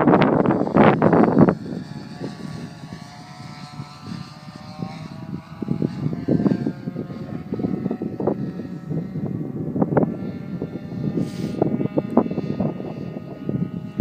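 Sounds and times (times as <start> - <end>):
model plane engine droning: 0.0 - 14.0
wind buffeting microphone: 0.0 - 14.0.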